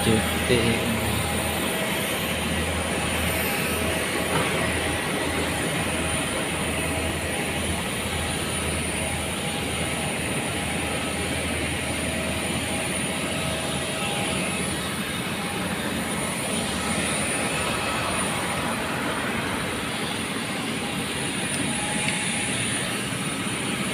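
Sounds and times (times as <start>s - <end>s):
jet engines roaring: 0.0s - 23.9s.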